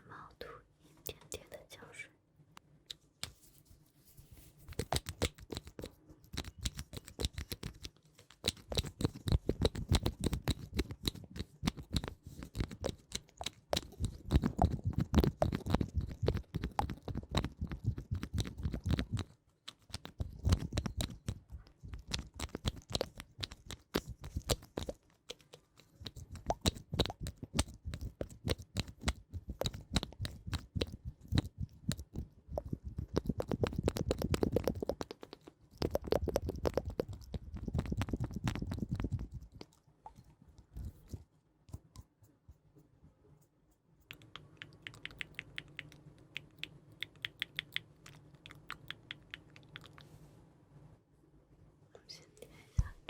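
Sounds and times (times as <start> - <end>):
crackling and scratching at microphone: 3.0 - 50.3, 52.0 - 53.0.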